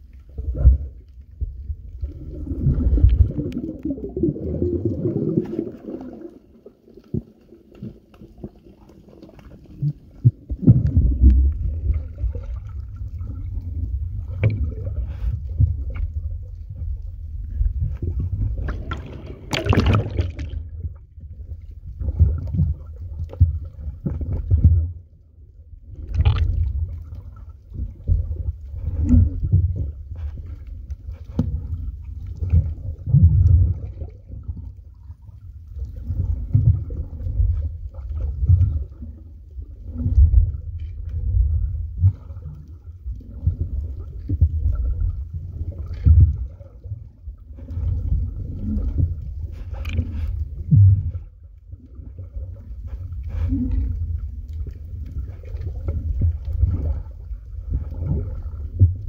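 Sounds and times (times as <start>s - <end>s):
water splashes: 0.0s - 25.1s, 25.8s - 59.0s
underwater water sloshing: 0.0s - 59.0s.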